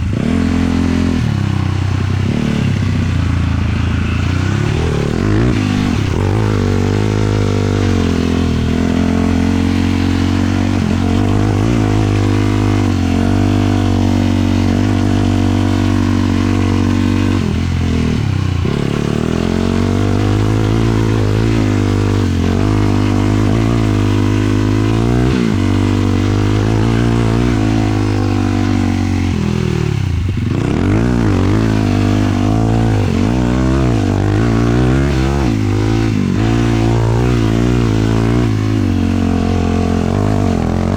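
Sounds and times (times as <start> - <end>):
quad engine running: 0.0 - 40.9.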